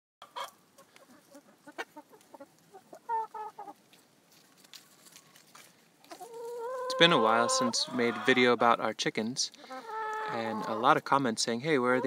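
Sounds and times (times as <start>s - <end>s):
hens clucking: 0.2s - 12.0s.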